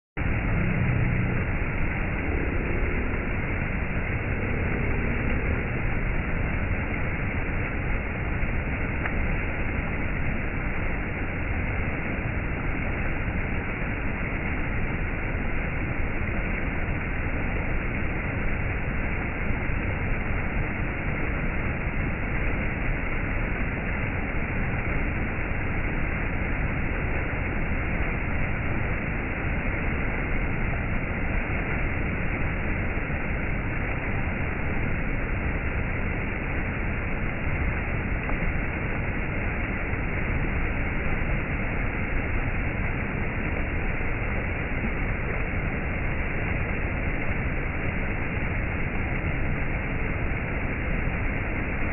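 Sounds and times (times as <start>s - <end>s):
stream rushing over rocks: 0.2s - 51.9s.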